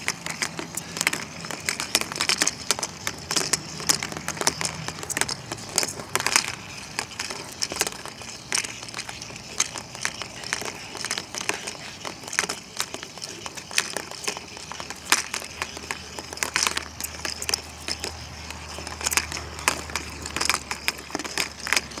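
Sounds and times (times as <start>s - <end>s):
toy balls rattling in plastic basket: 0.0s - 22.0s.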